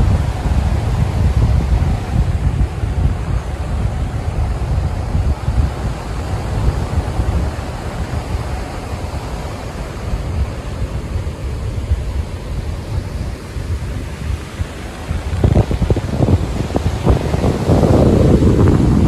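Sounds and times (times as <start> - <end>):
small waves washing on shore: 0.0 - 19.0
wind buffeting microphone: 0.0 - 19.0.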